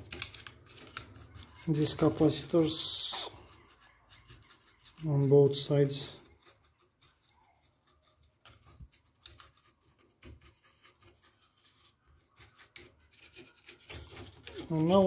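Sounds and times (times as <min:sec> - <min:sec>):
small brush scrubbing circuit board: 0:00.0 - 0:15.0.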